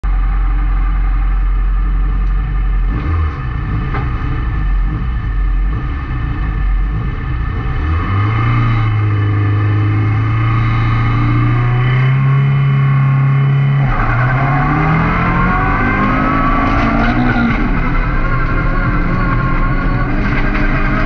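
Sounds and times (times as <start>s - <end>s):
car engine revving: 0.1s - 21.0s.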